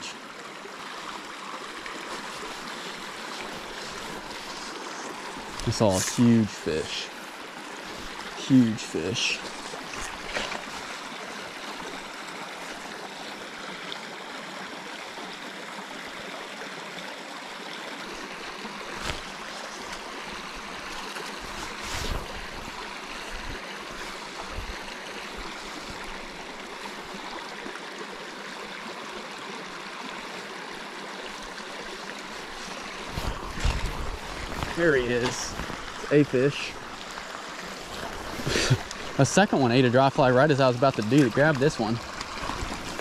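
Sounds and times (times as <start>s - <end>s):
creek running over rocks: 0.0s - 43.0s.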